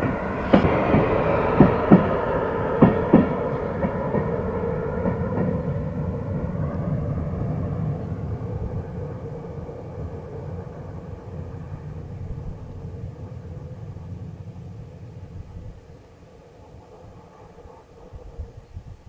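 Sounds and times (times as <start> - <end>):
locomotive rumble: 0.0 - 18.4.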